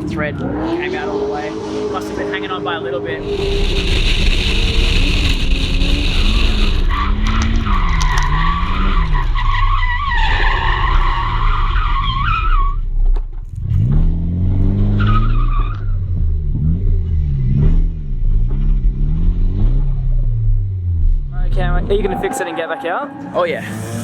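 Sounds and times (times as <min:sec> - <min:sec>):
car engine revving: 0:00.0 - 0:12.0, 0:13.5 - 0:24.0.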